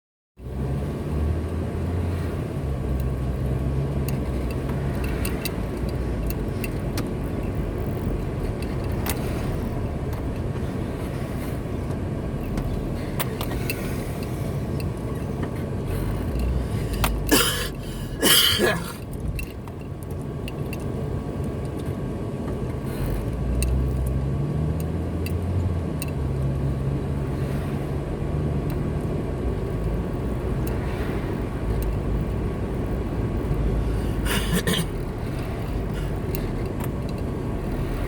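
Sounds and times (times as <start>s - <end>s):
car engine hum: 0.4s - 38.0s
road noise: 0.4s - 38.0s.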